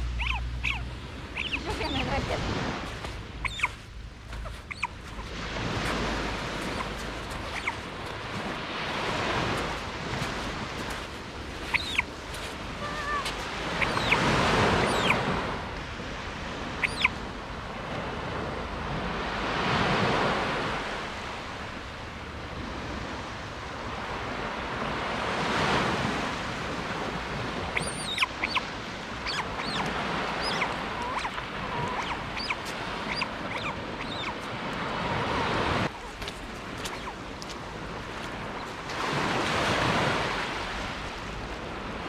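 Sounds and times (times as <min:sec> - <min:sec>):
surf washing on beach: 0:00.0 - 0:42.0.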